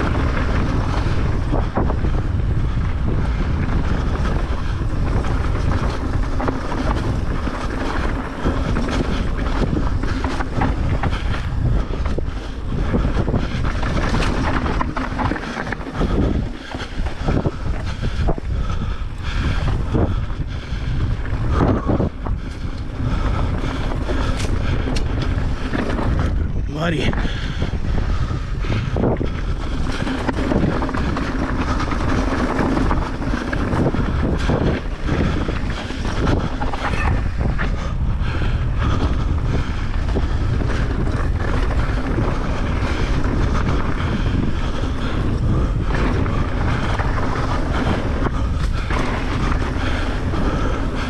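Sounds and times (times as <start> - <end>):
bike rattling clicks and knocks: 0.0 - 51.0
wind buffeting microphone: 0.0 - 51.0.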